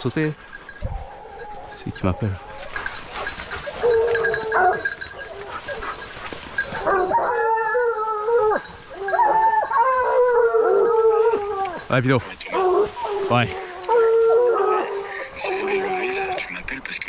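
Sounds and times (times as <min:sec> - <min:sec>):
hounds baying: 0:00.0 - 0:16.8.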